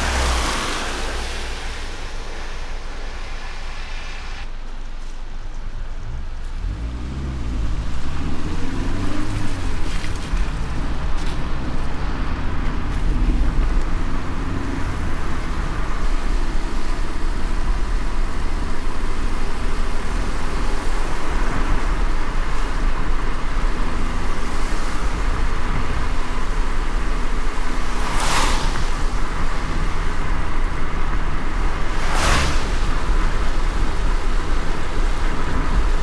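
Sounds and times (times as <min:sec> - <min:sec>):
hiss of tyres and rain: 0:00.0 - 0:36.0
road rumble: 0:00.0 - 0:36.0.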